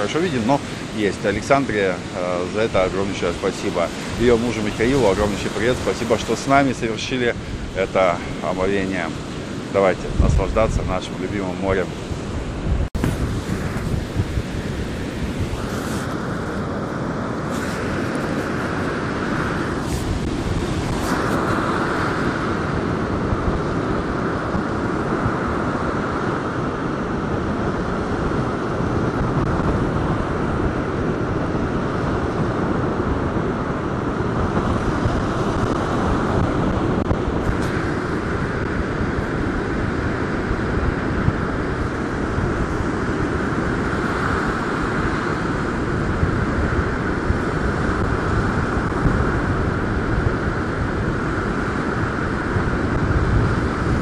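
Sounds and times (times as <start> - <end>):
surf breaking on beach: 0.0 - 54.0
wind buffeting microphone: 0.0 - 54.0.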